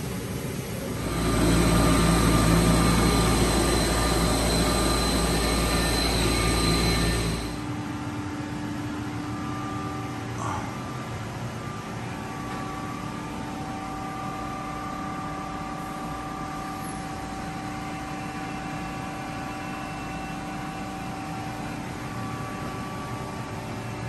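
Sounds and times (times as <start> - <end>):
lathe machine hum and hiss: 0.0 - 24.0.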